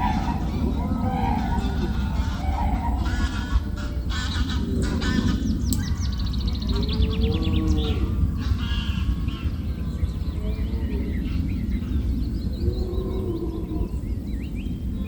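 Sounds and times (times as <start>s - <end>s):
birds chirping and calling: 0.0s - 15.0s
low rumble: 0.0s - 15.0s.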